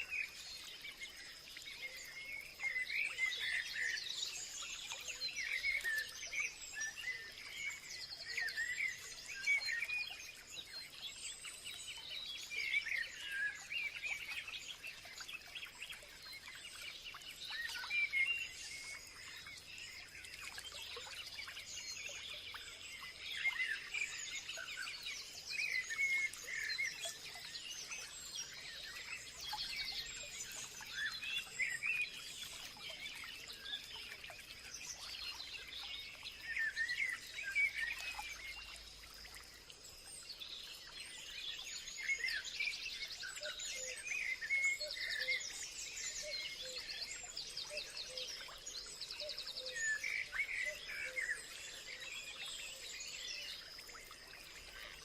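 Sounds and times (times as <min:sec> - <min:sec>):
small birds chirping chorus: 0:00.0 - 0:55.0.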